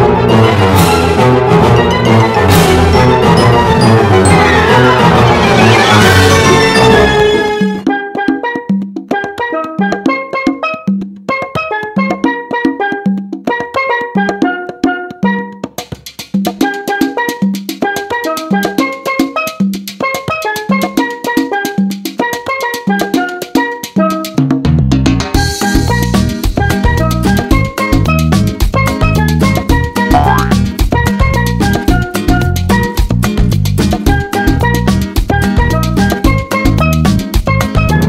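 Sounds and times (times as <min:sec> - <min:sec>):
upbeat background music: 0:00.0 - 0:24.5, 0:25.1 - 0:38.0.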